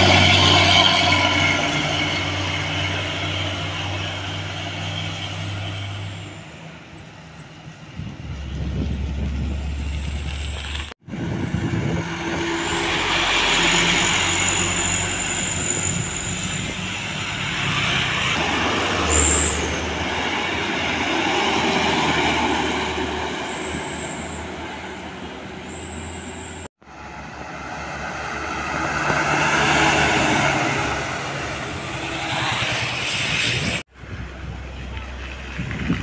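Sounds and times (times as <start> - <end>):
trucks passing: 0.0 - 36.0.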